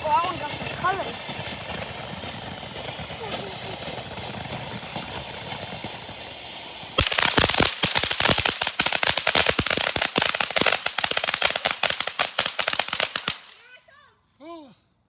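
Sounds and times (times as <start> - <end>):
firework hissing: 0.0 - 13.7
firework crackling: 0.0 - 13.8.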